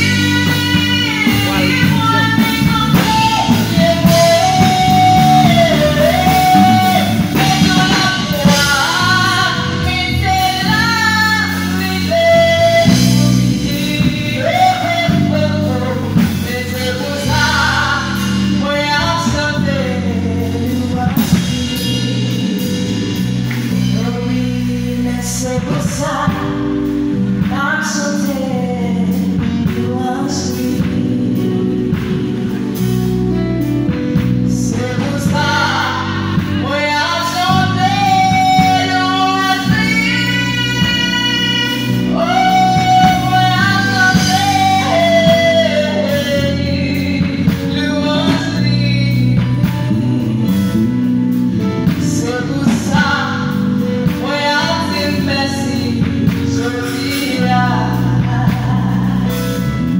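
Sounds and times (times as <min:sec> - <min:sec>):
women singing gospel song: 0:00.0 - 0:32.4, 0:34.1 - 0:50.6, 0:51.8 - 0:59.9
band with bass guitar and drums: 0:00.0 - 0:59.9.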